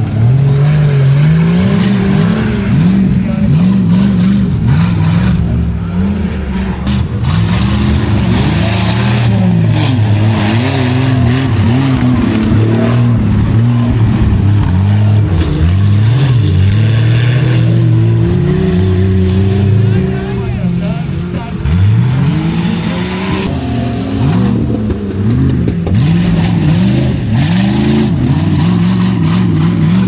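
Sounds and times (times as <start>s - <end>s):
low engine hum: 0.0s - 30.0s
off-road vehicle engine revving: 0.0s - 30.0s.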